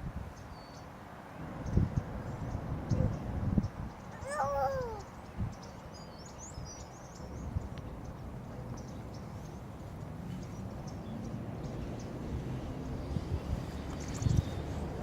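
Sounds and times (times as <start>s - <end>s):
wind buffeting microphone: 1.4s - 15.0s
small birds chirping: 1.6s - 15.0s.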